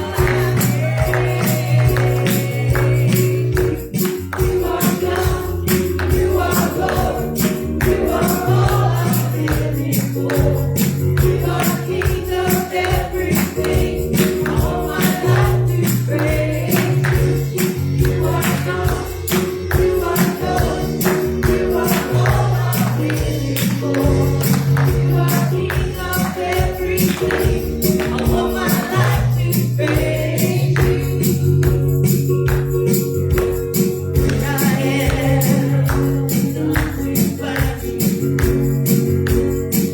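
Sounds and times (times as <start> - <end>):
voices singing: 0.0 - 31.6, 34.2 - 38.4
live gospel music: 0.0 - 39.9
tambourine shaking: 0.0 - 39.9.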